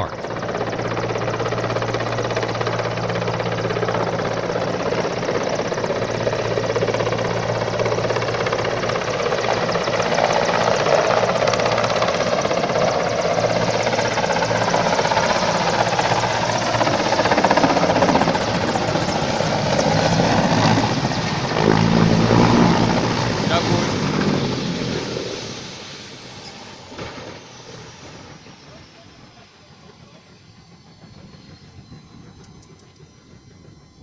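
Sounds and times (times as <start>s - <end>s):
helicopter rotor chopping: 0.0s - 25.3s, 28.6s - 34.0s.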